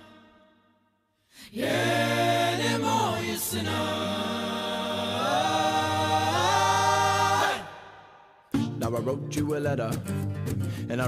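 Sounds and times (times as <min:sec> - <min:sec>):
song with sliding sung notes: 0:01.4 - 0:10.9.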